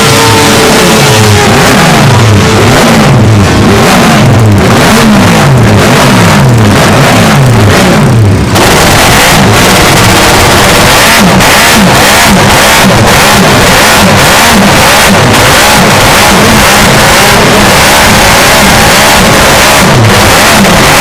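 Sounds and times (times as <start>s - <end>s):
racing engine revving in blips: 0.0s - 21.0s.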